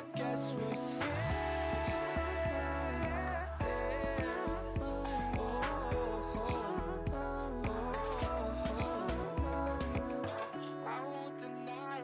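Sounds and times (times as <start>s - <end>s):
pop song with singing: 0.0s - 12.0s.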